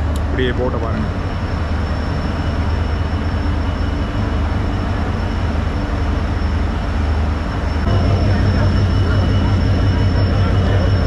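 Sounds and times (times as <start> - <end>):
diesel train engine rumbling: 0.0 - 11.0
faint high whine: 0.0 - 11.0.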